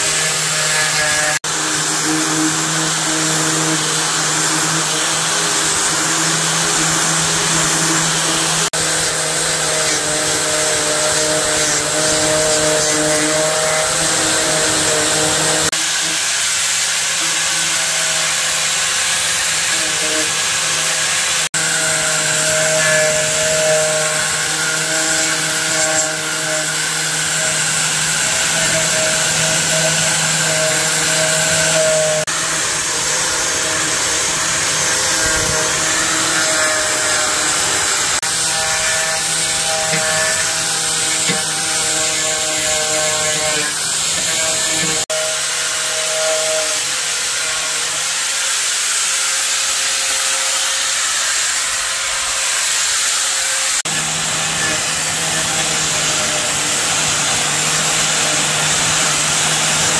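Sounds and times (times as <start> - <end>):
power tool motor humming: 0.0 - 59.9.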